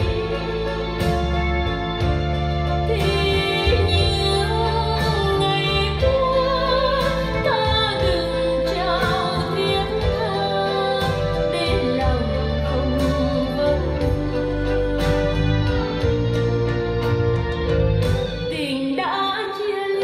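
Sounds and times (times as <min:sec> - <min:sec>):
sustained bass notes: 0:00.0 - 0:18.6.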